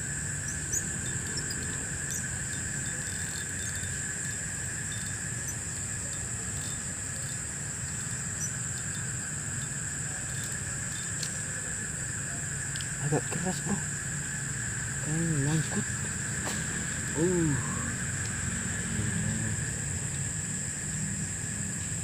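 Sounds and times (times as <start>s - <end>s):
insect chorus trilling: 0.0s - 22.0s
low steady rumble: 0.0s - 22.0s.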